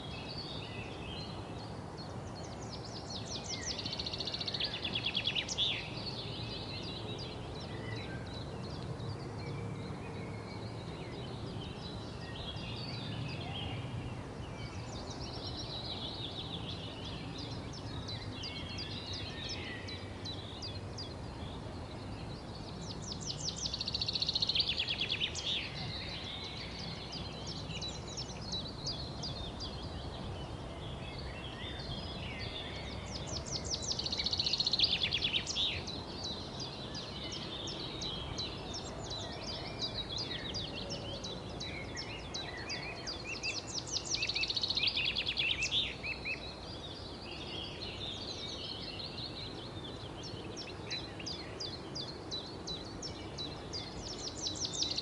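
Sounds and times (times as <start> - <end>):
low background hiss: 0.0 - 55.0
songbirds chirping and singing: 0.0 - 55.0.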